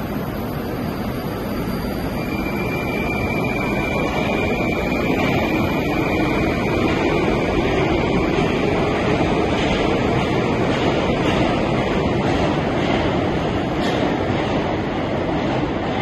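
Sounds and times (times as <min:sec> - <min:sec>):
train wheels and motors rumbling: 0:00.0 - 0:16.0.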